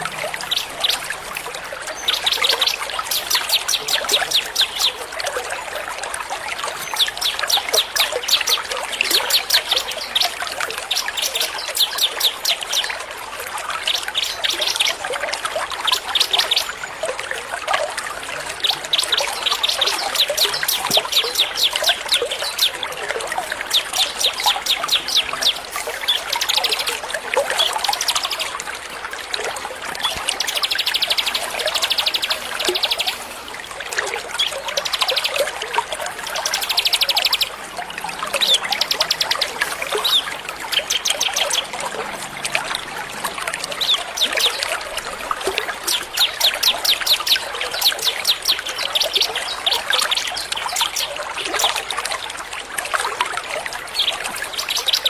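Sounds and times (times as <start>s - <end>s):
songbirds chirping trills: 0.0s - 17.4s, 18.3s - 52.2s, 53.6s - 55.0s
running water trickling: 0.0s - 55.0s.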